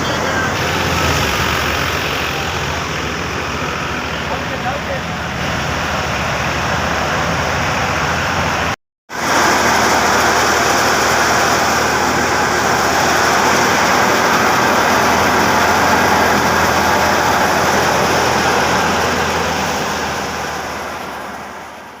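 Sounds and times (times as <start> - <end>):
thresher machine rushing noise: 0.0 - 7.5, 9.2 - 21.0
engine hum: 0.0 - 22.0.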